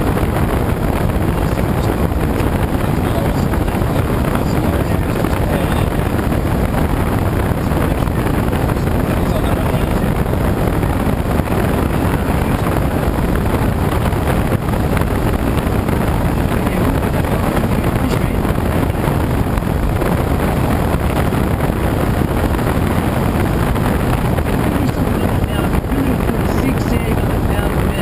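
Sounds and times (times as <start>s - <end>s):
air rushing over glider canopy: 0.0s - 28.0s
wind buffeting microphone: 0.0s - 28.0s.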